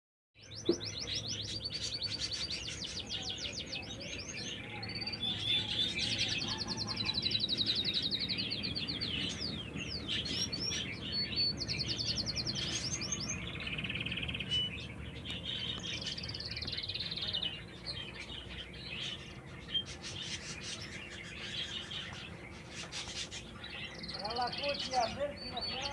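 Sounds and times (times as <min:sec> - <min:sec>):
canary singing trills: 0:00.4 - 0:25.9.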